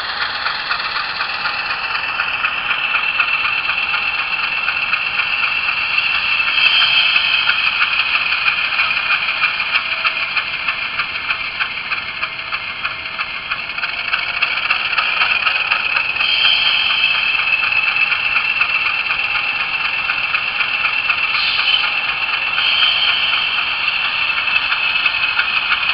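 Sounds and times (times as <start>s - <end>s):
pulsing diesel engine from small speaker: 0.0s - 25.9s.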